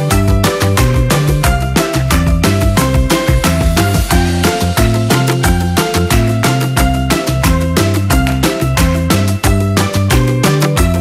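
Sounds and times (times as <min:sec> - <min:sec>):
upbeat music with bouncy beat: 0:00.0 - 0:11.0.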